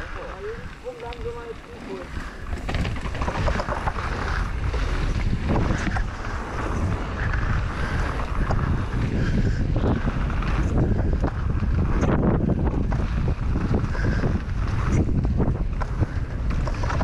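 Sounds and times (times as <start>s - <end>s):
tyres rumbling on dirt: 0.0s - 17.0s
wind buffeting microphone: 0.0s - 17.0s
bike knocks and rattles: 2.2s - 17.0s.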